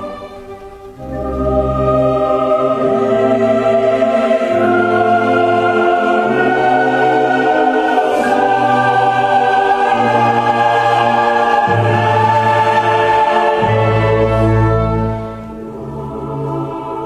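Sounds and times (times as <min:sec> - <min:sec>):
slow choral music: 0:00.0 - 0:17.0.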